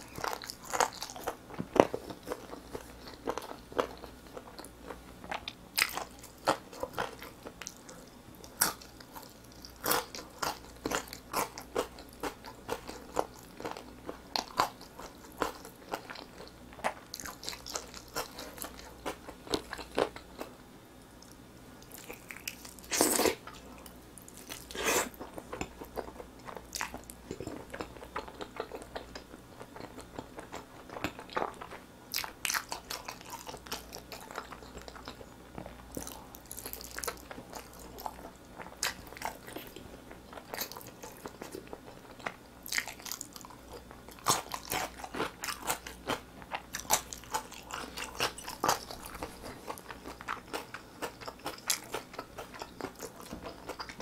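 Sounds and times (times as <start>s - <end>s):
crunchy chewing: 0.0s - 20.6s, 21.2s - 54.0s.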